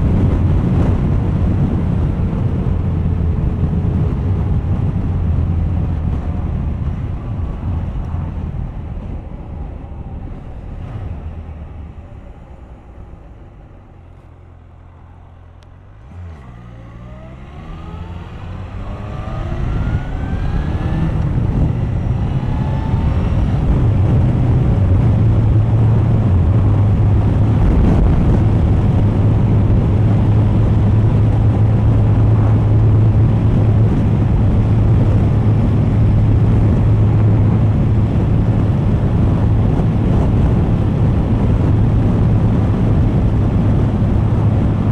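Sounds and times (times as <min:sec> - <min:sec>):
motorcycle engine accelerating: 0:00.0 - 0:44.9
wind rush on microphone: 0:00.0 - 0:44.9.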